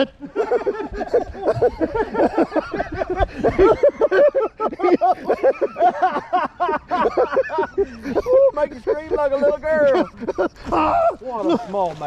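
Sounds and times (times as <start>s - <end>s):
men hollering and shrieking: 0.3s - 12.0s.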